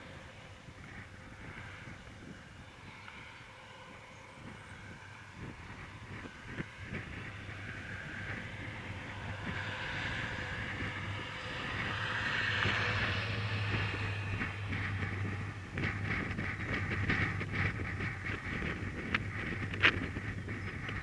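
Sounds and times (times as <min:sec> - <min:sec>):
low hum: 0:00.0 - 0:21.0
rushing vehicle noise: 0:00.0 - 0:21.0.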